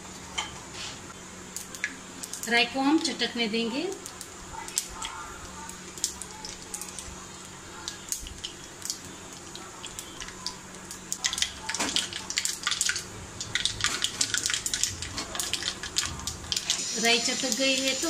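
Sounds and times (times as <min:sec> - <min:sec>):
mustard seeds crackling in hot oil: 0:01.4 - 0:18.0.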